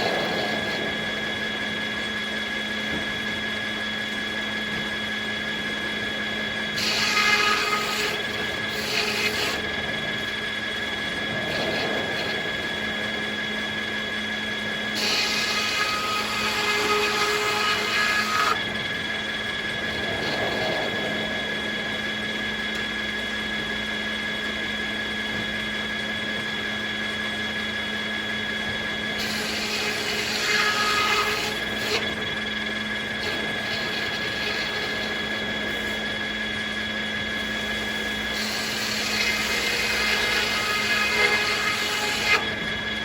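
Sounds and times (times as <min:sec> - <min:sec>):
circular sawmill humming and whining: 0:00.0 - 0:43.0.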